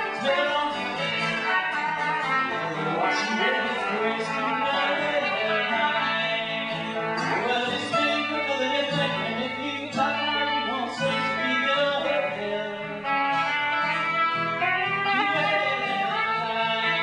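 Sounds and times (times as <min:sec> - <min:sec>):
acoustic guitar playing: 0:00.0 - 0:17.0
person singing: 0:00.0 - 0:17.0.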